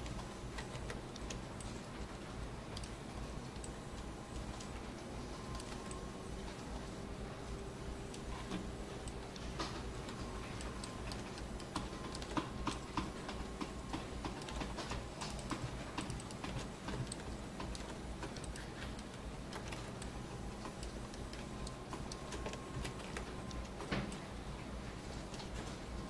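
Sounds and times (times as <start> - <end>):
computer mouse and keyboard clicking: 0.0 - 6.9, 8.0 - 26.0
steady low hum: 0.0 - 26.0.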